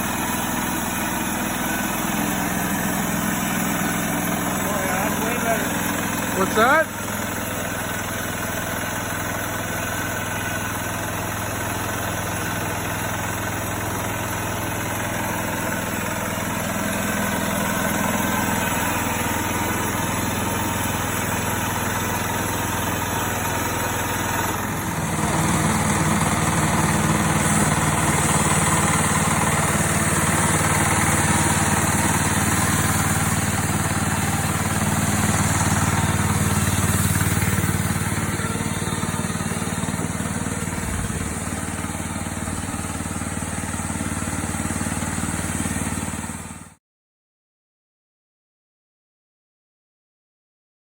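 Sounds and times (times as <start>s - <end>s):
sawmill gasoline engine running: 0.0s - 46.8s.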